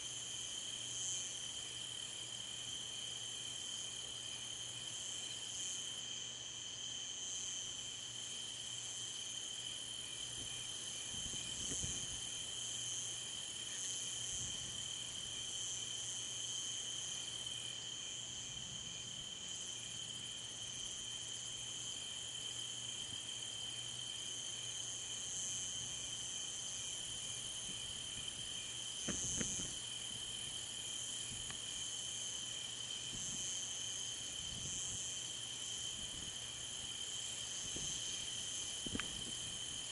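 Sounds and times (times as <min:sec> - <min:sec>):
continuous insect trill: 0:00.0 - 0:39.9
pulsing insect chirping: 0:00.0 - 0:39.9.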